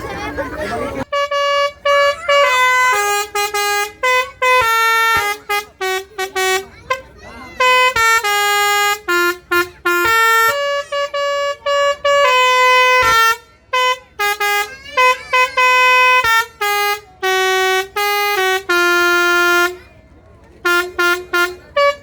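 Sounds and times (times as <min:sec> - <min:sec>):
bus horn playing a tune: 0:00.0 - 0:22.0.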